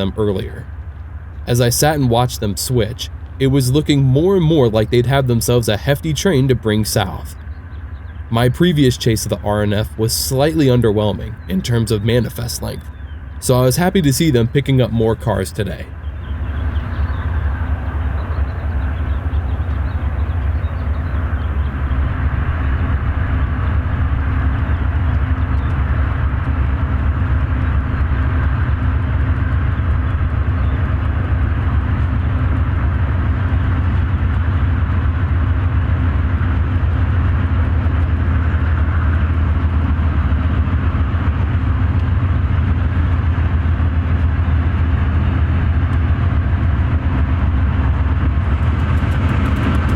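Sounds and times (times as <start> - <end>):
diesel locomotive engine drone: 0.0 - 49.9.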